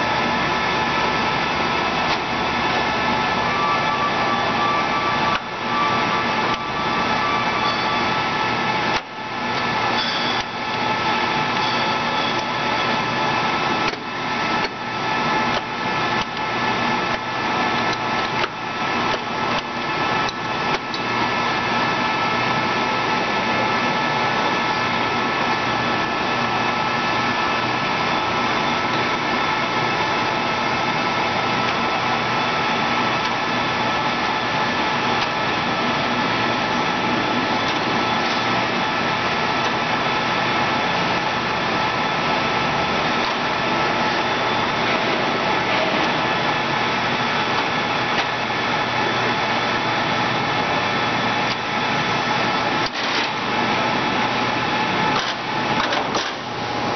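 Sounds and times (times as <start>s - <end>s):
gear whine: 0.0s - 56.9s
lathe mechanical whir: 0.0s - 56.9s.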